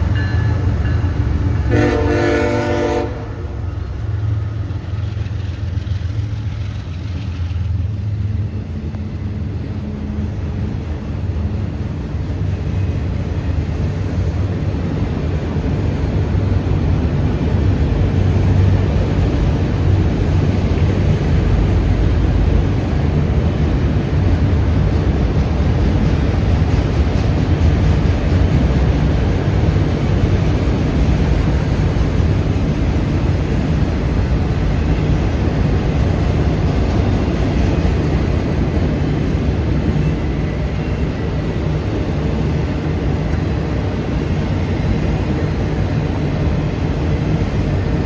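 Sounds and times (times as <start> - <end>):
freight train rumbling: 0.0 - 48.0.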